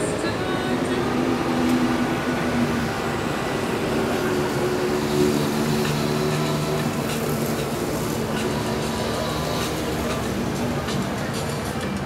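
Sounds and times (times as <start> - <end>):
city traffic: 0.0 - 12.0
vehicle engine hum: 0.0 - 12.0.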